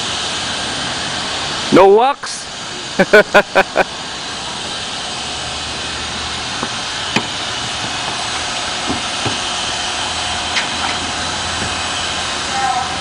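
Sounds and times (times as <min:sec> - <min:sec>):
car wash machinery hiss and hum: 0:00.0 - 0:13.0.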